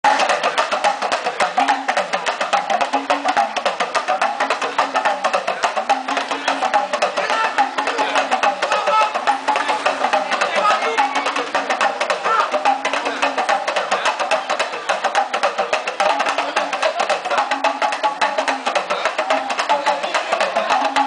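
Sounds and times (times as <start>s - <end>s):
fast talking drum strokes: 0.0s - 21.0s.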